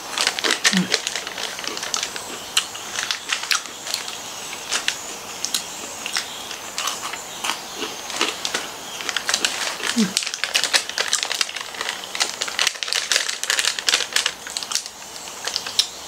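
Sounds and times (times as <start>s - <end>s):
chewing crunchy snacks: 0.0s - 16.0s
foil packet crinkling: 0.0s - 16.0s.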